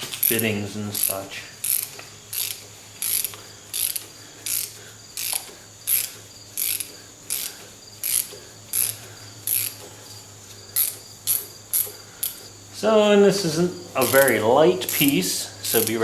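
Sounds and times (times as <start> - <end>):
ratchet wrench clicking: 0.0 - 9.9, 10.8 - 12.5, 14.0 - 16.0.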